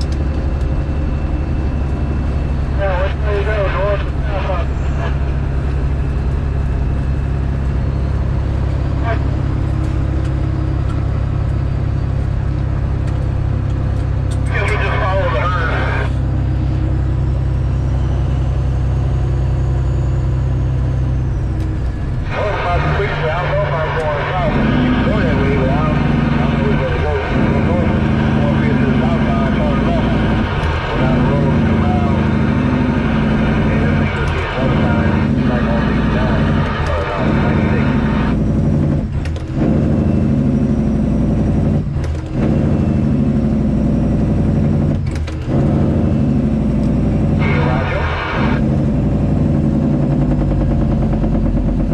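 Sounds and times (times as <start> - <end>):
diesel truck engine droning: 0.0 - 51.9.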